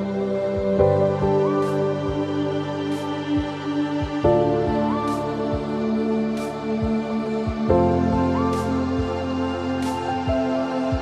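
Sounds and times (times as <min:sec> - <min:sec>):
background music chords: 0:00.0 - 0:11.0.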